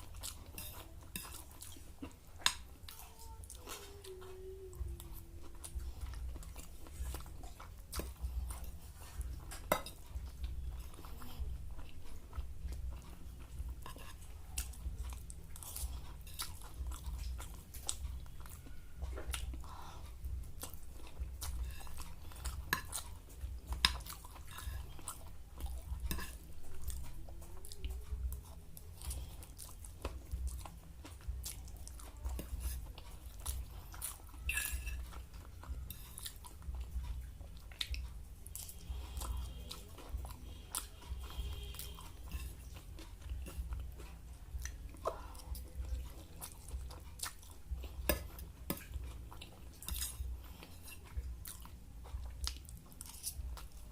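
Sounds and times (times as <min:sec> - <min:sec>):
person chewing and crunching food: 0:00.0 - 0:53.9.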